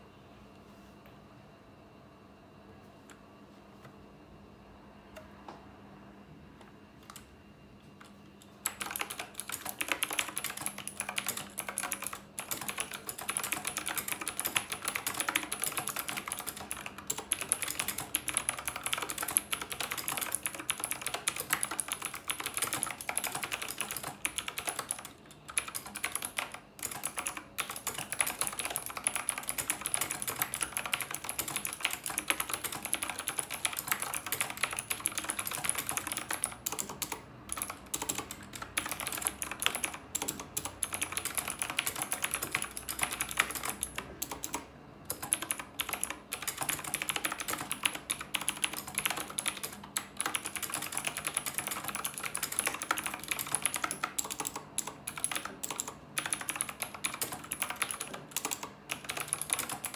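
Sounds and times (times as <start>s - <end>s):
mechanical keyboard typing: 8.6s - 59.9s.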